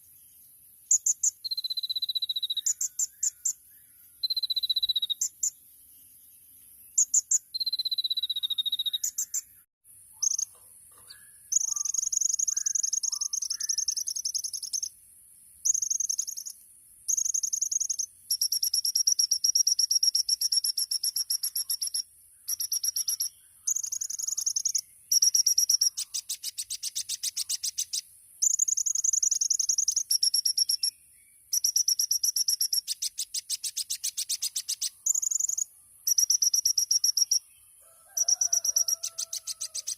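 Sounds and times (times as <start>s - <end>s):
sunbird singing rapid trills: 0.0s - 15.0s, 15.6s - 39.9s.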